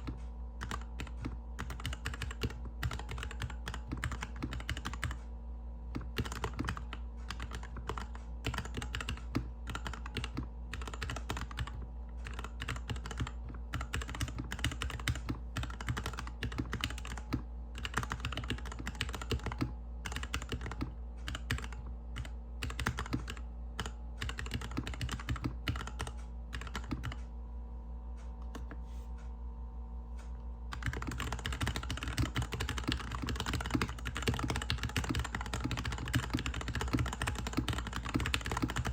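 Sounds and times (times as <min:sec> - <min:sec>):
typing on mechanical keyboard: 0:00.0 - 0:05.2, 0:05.9 - 0:27.2, 0:30.7 - 0:38.9.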